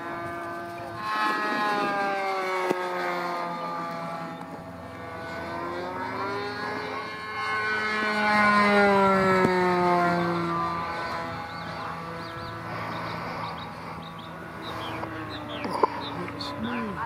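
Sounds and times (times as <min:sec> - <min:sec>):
model airplane engine passing: 0:00.0 - 0:17.0.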